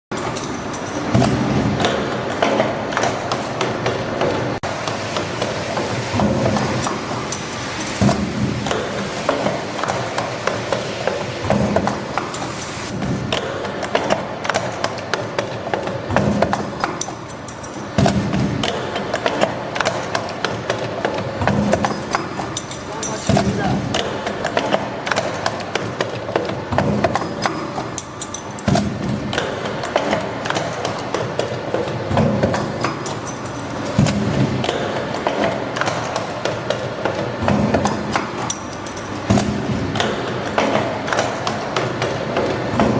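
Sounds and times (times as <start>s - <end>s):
machine clicking and knocking: 0.1s - 42.9s
sharp metallic clacks: 6.2s - 42.9s.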